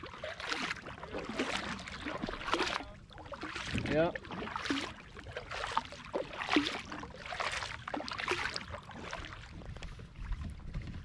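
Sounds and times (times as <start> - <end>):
water dripping off paddle: 0.0 - 9.9
kayak paddle swishing water: 0.0 - 11.0.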